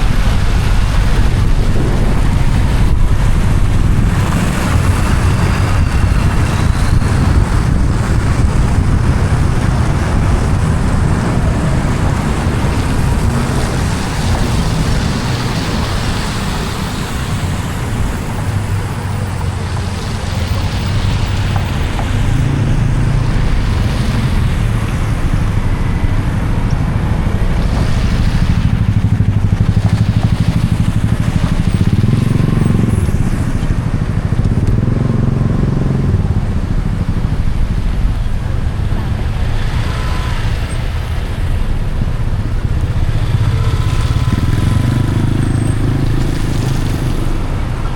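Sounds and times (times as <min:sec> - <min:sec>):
cars passing on wet road: 0:00.0 - 0:47.9.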